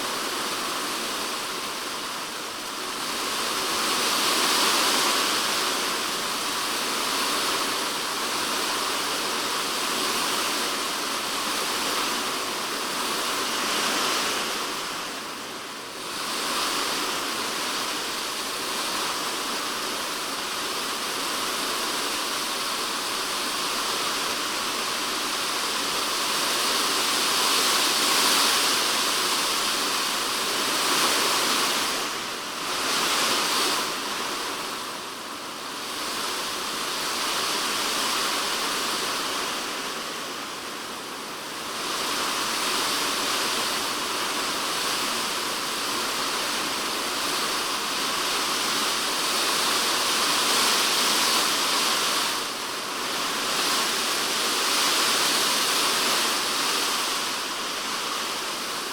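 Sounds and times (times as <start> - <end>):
heavy rain on plastic roof: 0.0 - 58.9.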